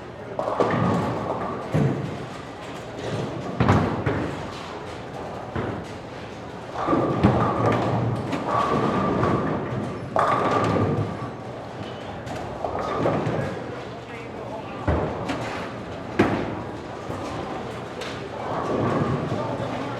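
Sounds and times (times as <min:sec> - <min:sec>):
bowling balls rolling: 0:00.4 - 0:13.9, 0:14.8 - 0:19.9.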